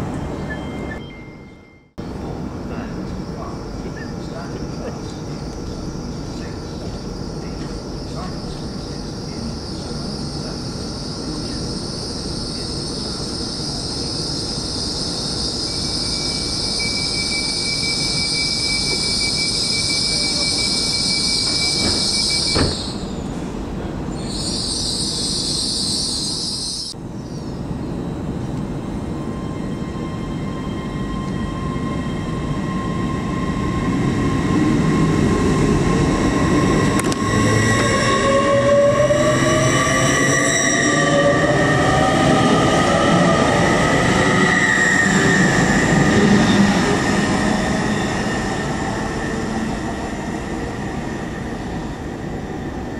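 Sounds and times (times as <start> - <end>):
train rumble: 2.0 - 17.2, 18.6 - 52.9.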